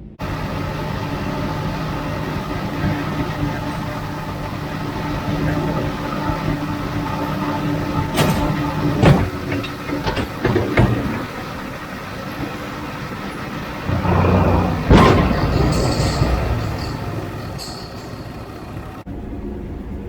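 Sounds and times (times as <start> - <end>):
tractor engine running: 0.0 - 20.0
machinery clunks and knocks: 0.2 - 19.1.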